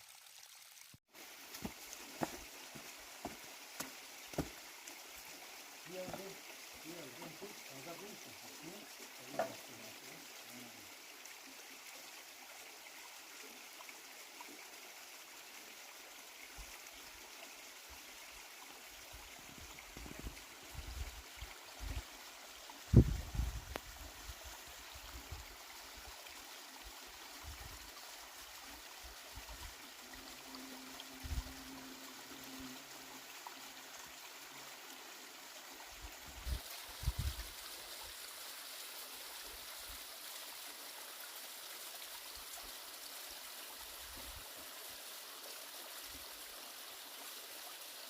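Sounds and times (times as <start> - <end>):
mountain stream rushing: 0.0 - 48.0.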